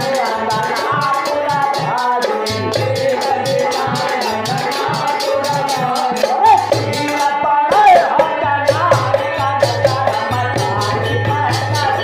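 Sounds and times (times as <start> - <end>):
steady beat: 0.0 - 12.0.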